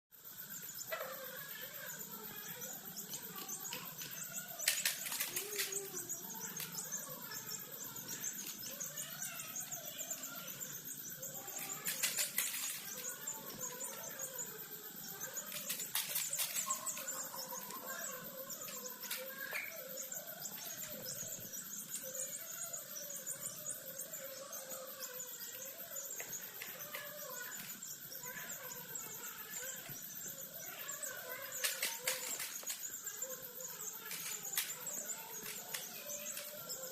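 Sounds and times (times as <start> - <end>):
chickens clucking and peeping: 0.7 - 36.9.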